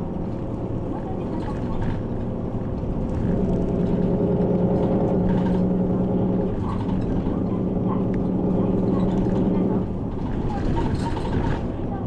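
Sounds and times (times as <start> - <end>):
bus diesel engine humming: 0.0 - 12.0.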